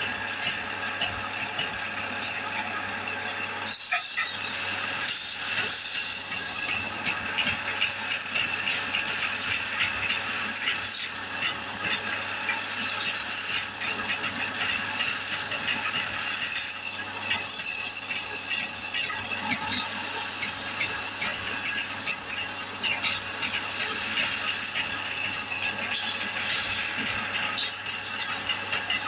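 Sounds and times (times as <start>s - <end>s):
tool scraping wood on lathe: 3.6s - 29.0s.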